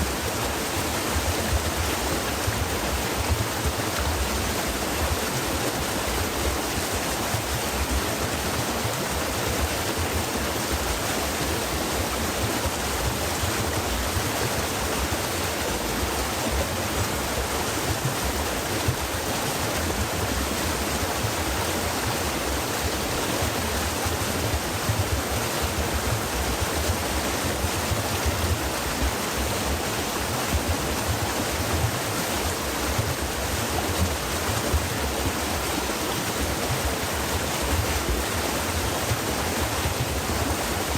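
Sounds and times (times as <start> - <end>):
stream water rushing over rocks: 0.0 - 40.9.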